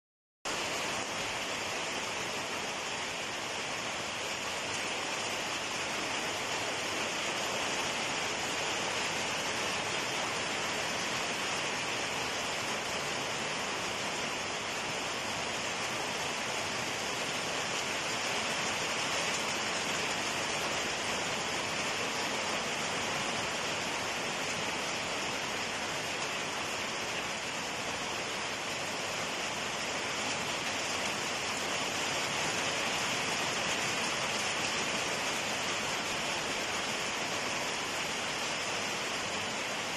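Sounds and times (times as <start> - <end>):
rain falling on foliage: 0.5 - 39.9.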